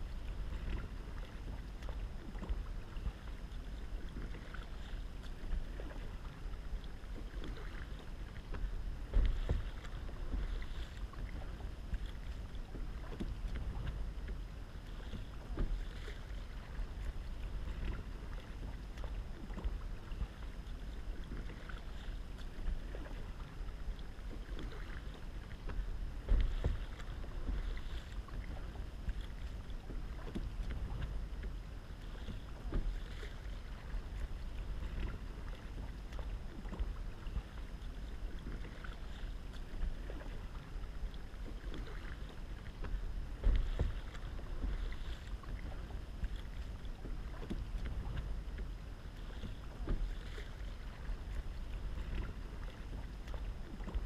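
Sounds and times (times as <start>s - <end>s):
paddle splashing in water: 0.0s - 54.0s
water lapping at hull: 0.0s - 54.0s
wind rumble on microphone: 0.0s - 54.0s.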